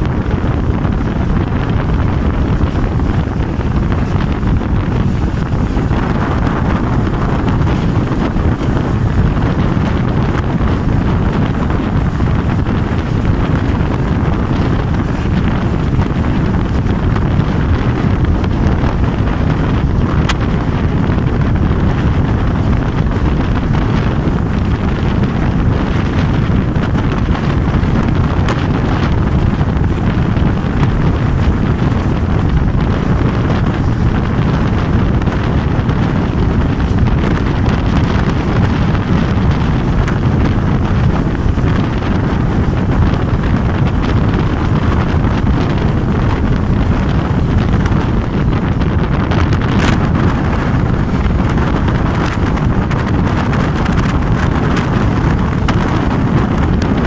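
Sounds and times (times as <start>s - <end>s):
train running on track: 0.0s - 57.0s
wind buffeting microphone: 0.0s - 57.0s.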